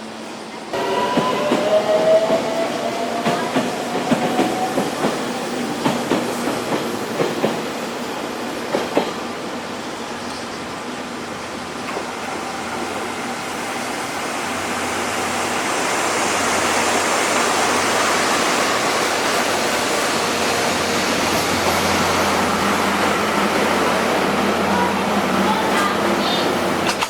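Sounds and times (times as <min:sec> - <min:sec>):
train running roar inside coach: 0:00.0 - 0:27.0.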